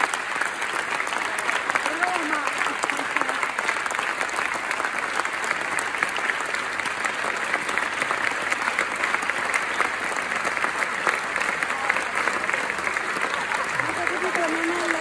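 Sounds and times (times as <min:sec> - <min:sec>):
large audience applauding: 0:00.0 - 0:15.0.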